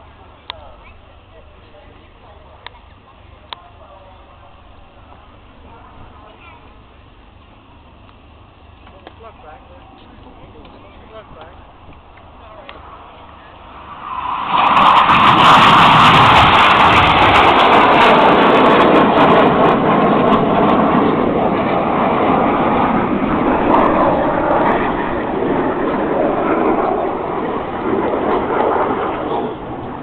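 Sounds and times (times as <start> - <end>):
jet roar overhead: 0.0 - 30.0.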